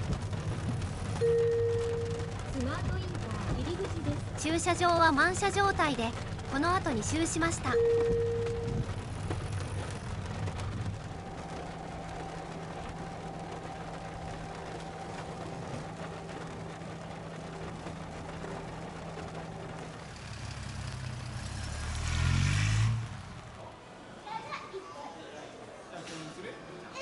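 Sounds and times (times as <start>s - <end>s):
car road and drivetrain noise: 0.0s - 24.5s.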